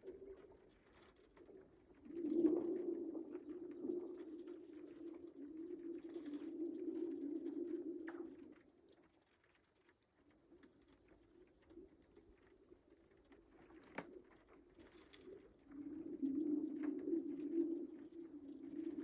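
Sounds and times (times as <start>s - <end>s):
low hum of lake ice: 0.0s - 19.0s.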